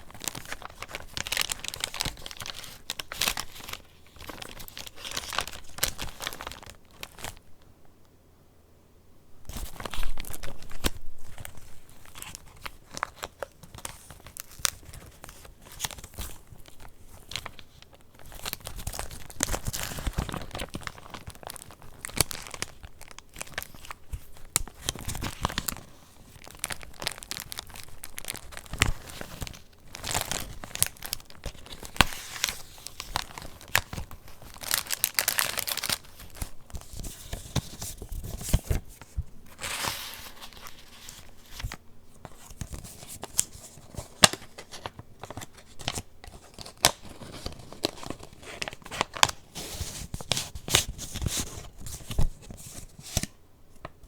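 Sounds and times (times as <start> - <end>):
paper pages rustling: 0.0 - 7.4, 9.5 - 54.0.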